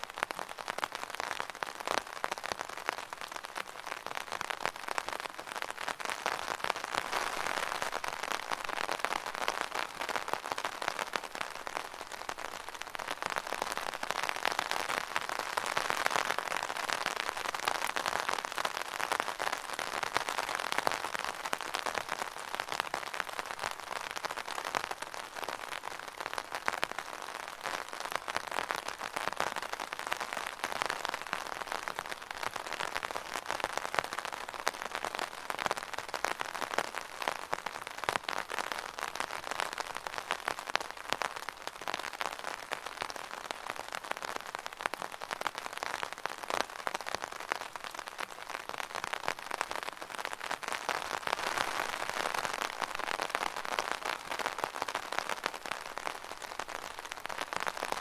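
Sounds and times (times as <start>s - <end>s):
rain drumming on umbrella: 0.0s - 58.0s.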